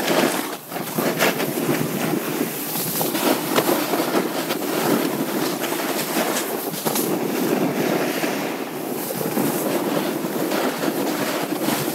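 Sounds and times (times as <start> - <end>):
edges scraping on snow: 0.0 - 11.9
wind buffeting microphone: 0.0 - 11.9.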